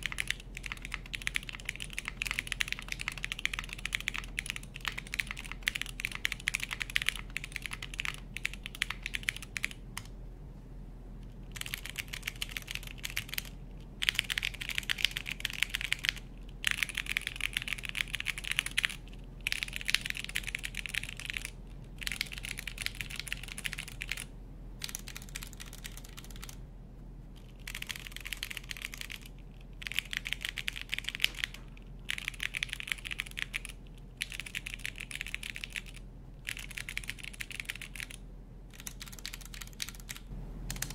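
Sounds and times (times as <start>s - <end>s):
mechanical keyboard typing: 0.0s - 10.1s, 11.5s - 26.6s, 27.4s - 40.9s
faint low hum: 0.0s - 40.9s.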